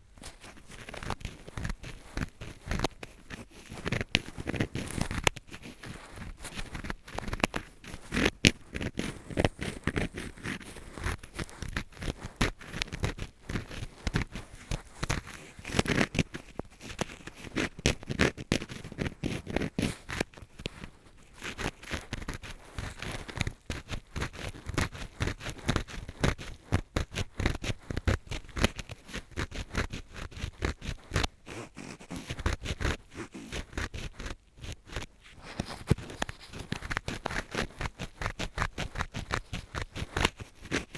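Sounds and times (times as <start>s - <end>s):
scratching in ear: 0.2s - 40.9s.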